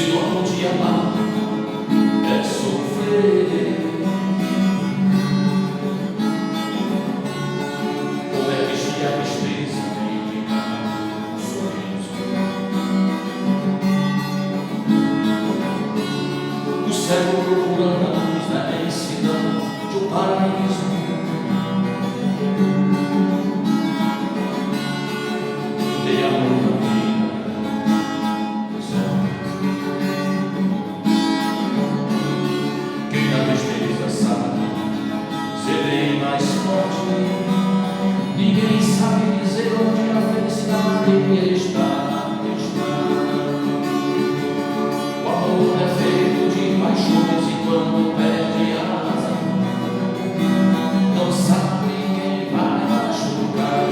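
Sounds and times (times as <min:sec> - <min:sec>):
acoustic guitar strumming chords: 0:00.0 - 0:53.9.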